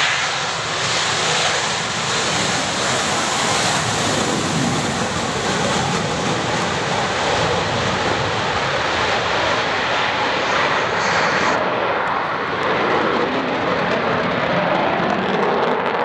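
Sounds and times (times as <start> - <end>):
fighter jet roar: 0.0 - 16.0.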